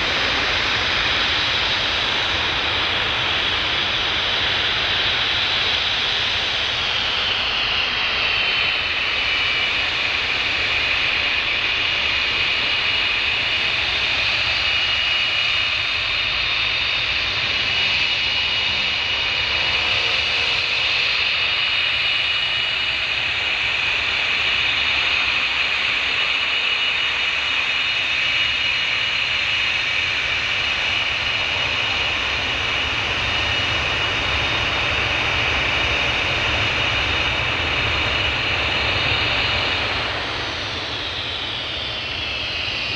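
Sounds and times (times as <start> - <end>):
jet engines high-pitched whine: 0.0 - 42.9
jet noise: 0.0 - 42.9.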